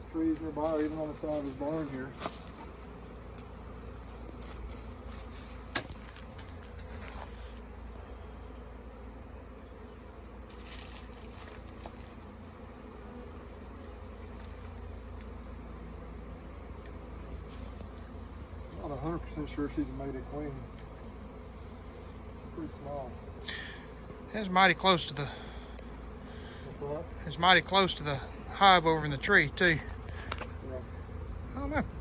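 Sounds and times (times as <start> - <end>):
bee swarm buzzing: 0.0 - 32.0.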